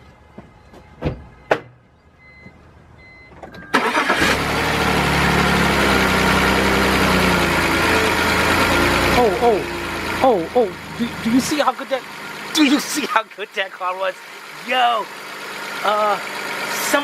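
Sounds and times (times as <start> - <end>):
car engine starting and idling: 0.0 - 17.0.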